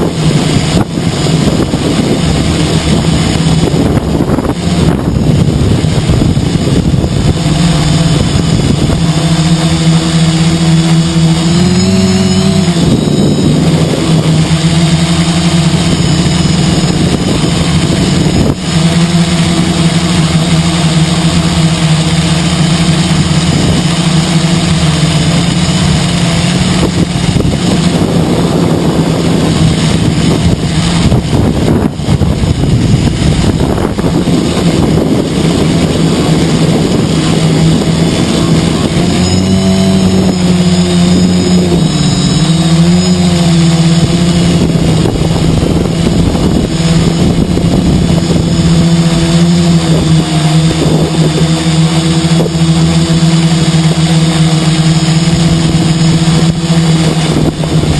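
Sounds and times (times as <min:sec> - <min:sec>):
drone motors droning: 0:00.0 - 0:57.9
wind rushing over microphone: 0:00.0 - 0:57.9.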